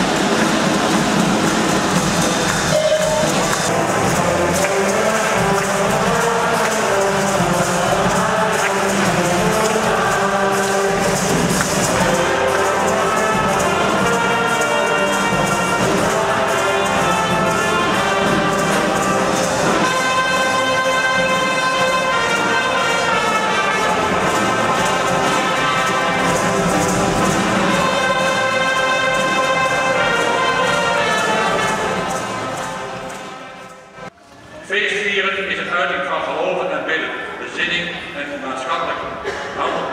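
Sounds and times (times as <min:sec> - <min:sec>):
brass band playing: 0:00.0 - 0:34.2.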